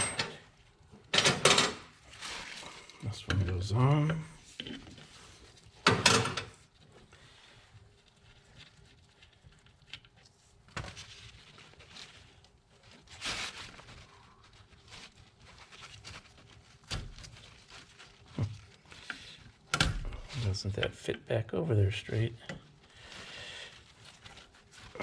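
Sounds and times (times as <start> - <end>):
low room noise: 0.0 - 25.0.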